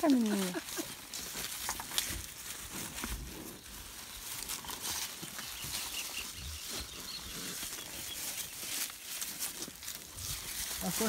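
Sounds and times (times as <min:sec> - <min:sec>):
cattle crunching corn: 0:00.0 - 0:11.0
rustling and shuffling: 0:00.0 - 0:11.0.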